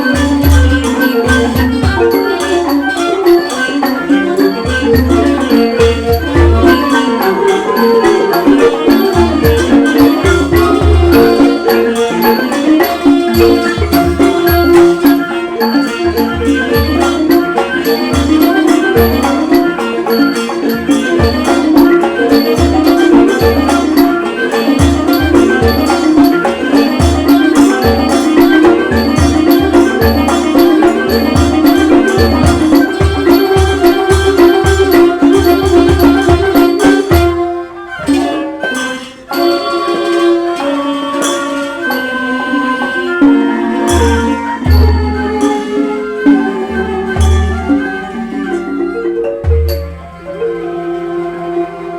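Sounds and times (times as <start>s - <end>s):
classical ensemble melody: 0.0s - 51.9s
mallet percussion notes: 0.0s - 51.9s.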